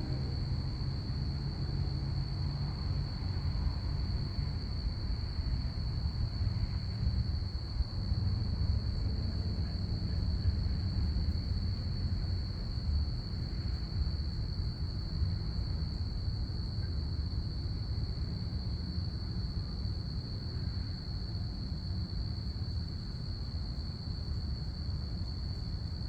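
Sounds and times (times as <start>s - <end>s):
constant low rumble: 0.0s - 26.0s
crickets chirping: 0.0s - 26.0s.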